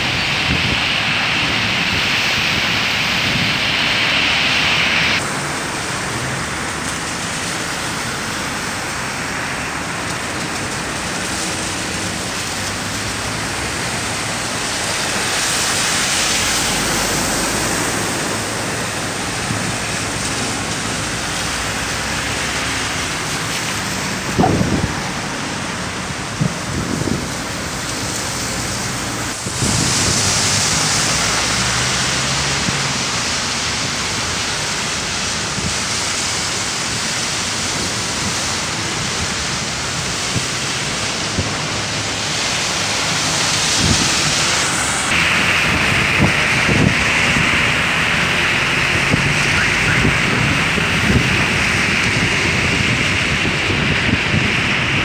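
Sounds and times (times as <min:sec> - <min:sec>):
tyres swishing through water: 0:00.0 - 0:55.0.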